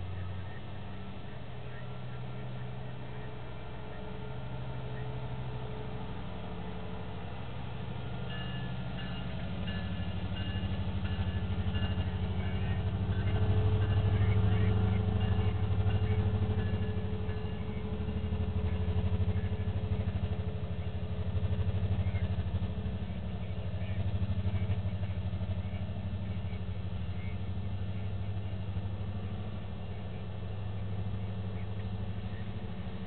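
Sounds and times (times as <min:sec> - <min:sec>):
faint steady whine: 0:00.0 - 0:33.0
freight train rumbling past: 0:00.0 - 0:33.0.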